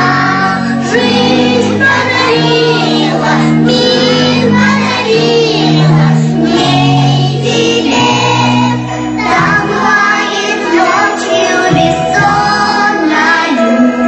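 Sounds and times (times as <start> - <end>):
backing track with bass notes: 0.0 - 14.0
children singing: 0.0 - 14.0.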